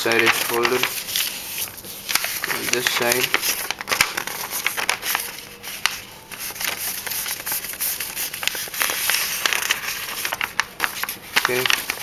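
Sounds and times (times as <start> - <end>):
paper crackling: 0.0 - 12.0
paper rustling: 0.0 - 12.0.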